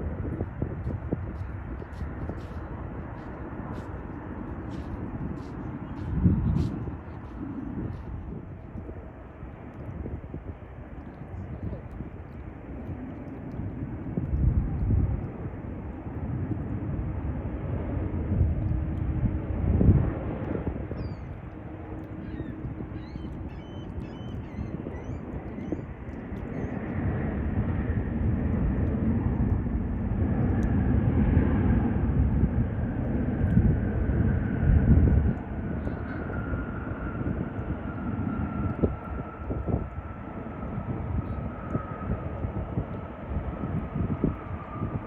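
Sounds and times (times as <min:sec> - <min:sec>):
jet airliner rumble: 0:00.0 - 0:45.0
jet engine whine: 0:00.0 - 0:45.0.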